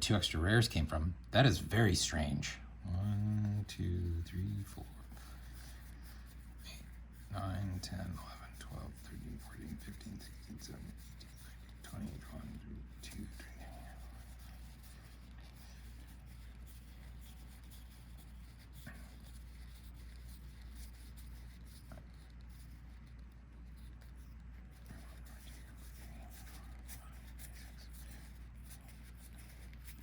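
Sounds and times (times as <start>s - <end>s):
steady low hum: 0.0s - 30.0s
trading cards sliding and ticking: 3.0s - 30.0s.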